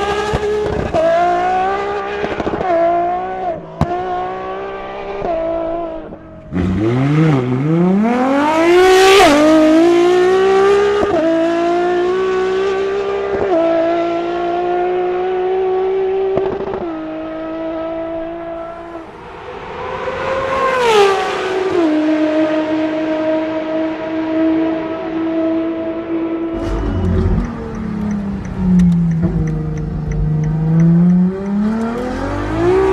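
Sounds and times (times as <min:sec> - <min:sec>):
high-revving car engine accelerating: 0:00.0 - 0:32.9.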